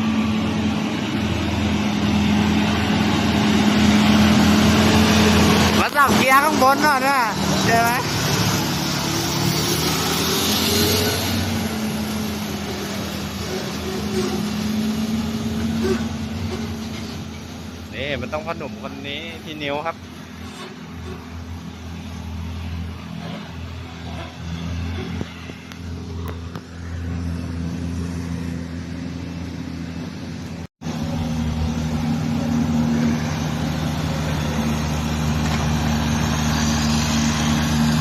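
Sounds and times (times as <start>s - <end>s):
diesel truck engine pulling uphill: 0.0s - 38.0s.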